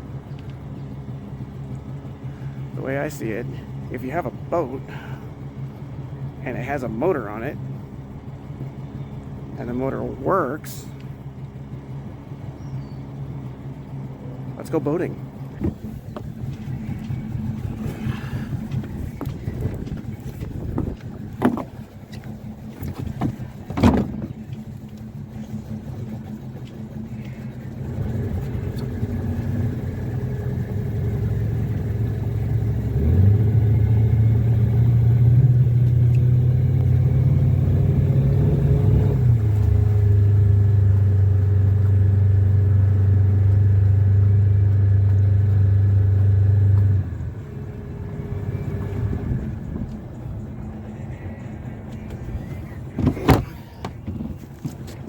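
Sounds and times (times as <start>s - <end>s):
small boat motor droning: 0.0s - 55.0s.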